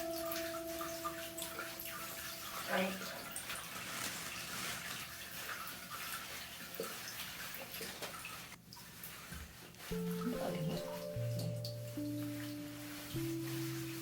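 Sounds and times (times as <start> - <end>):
water splashing in bathtub: 0.0 - 14.0.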